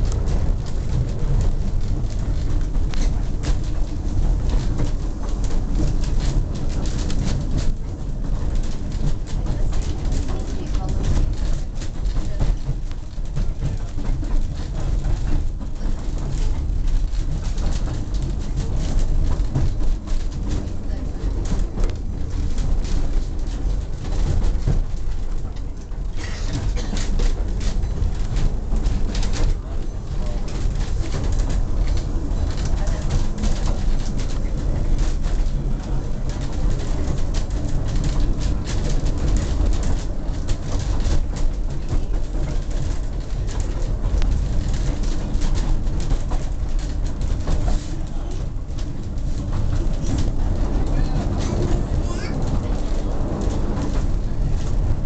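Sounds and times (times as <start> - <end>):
train wheels rumbling on rails: 0.0 - 55.0
wooden carriage rattling and clicking: 0.0 - 55.0.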